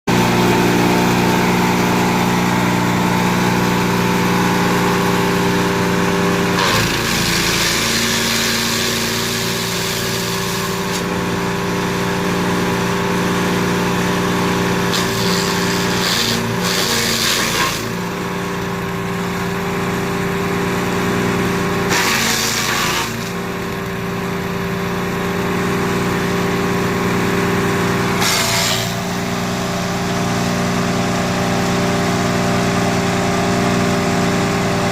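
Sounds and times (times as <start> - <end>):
material fed through chipper: 0.1 - 34.9
wood chipper engine running: 0.1 - 34.9.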